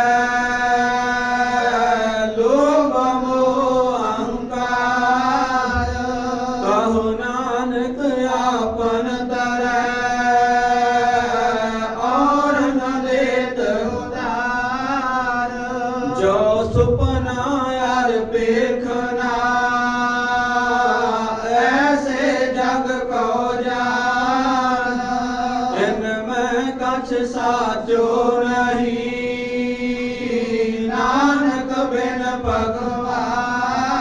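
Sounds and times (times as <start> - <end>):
person chanting scripture: 0.0 - 34.0.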